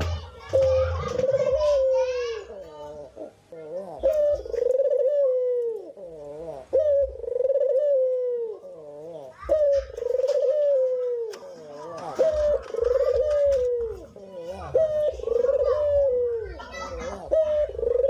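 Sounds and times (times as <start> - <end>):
pigeons cooing: 0.0 - 18.0
soft low warbling coos: 0.0 - 18.0.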